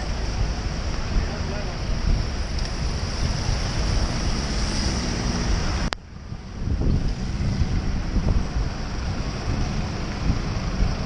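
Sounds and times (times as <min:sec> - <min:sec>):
traffic: 0:00.0 - 0:11.0
tyres hissing on wet road: 0:00.0 - 0:11.0
wind rushing over microphone: 0:00.0 - 0:11.0.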